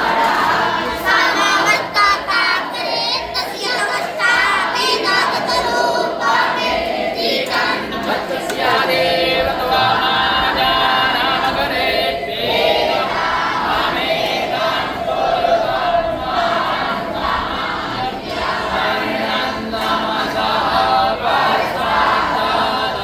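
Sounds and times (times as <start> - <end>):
group of voices chanting: 0.0 - 23.0.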